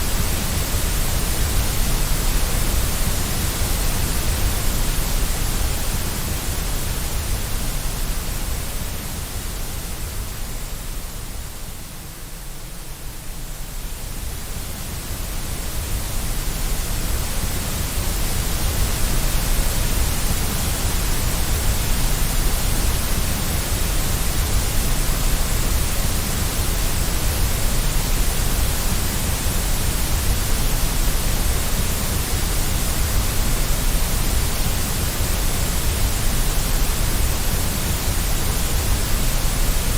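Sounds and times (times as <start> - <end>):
white noise hiss with rumble: 0.0 - 39.9.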